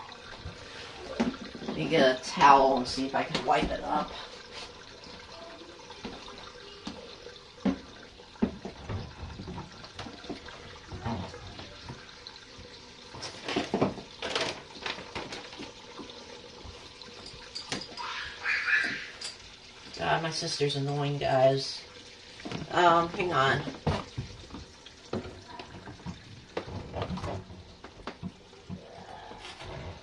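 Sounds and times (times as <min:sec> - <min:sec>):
water running: 0:00.0 - 0:30.0.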